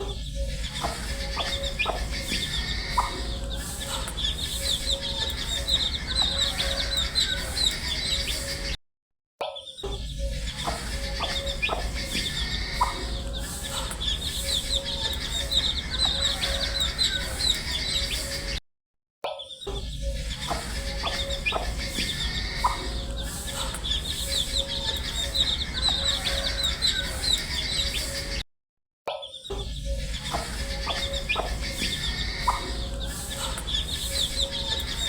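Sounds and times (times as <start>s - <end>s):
baby chicks peeping: 0.0s - 8.7s, 10.2s - 18.6s, 19.9s - 28.4s, 29.4s - 35.0s.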